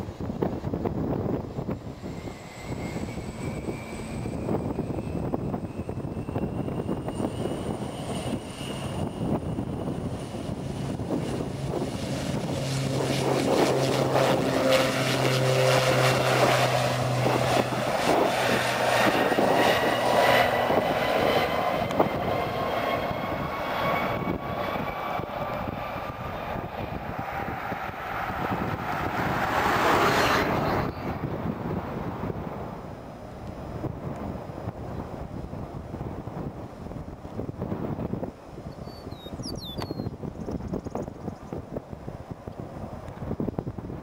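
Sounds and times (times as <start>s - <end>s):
low hum: 0.0s - 38.4s
high engine whine: 0.0s - 43.7s
turboprop aircraft engine drone: 0.0s - 44.0s.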